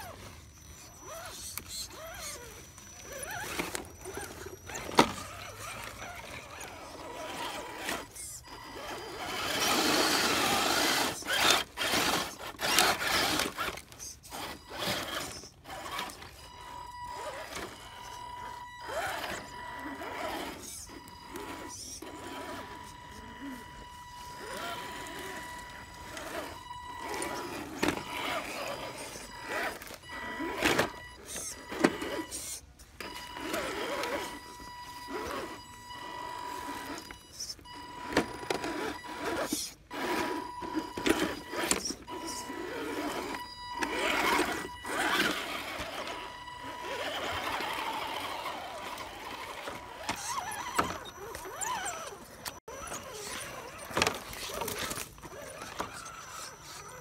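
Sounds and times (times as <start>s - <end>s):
toy car motor whine: 0.0s - 57.0s.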